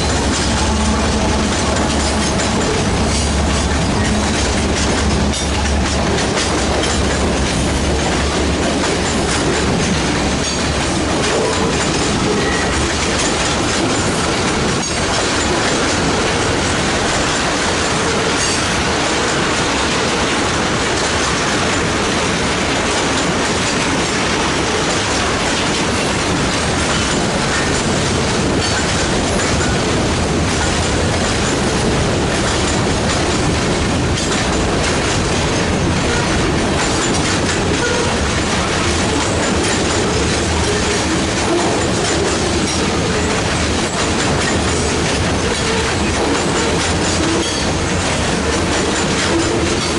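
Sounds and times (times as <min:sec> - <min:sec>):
freight train wheels clacking: 0:00.0 - 0:49.9.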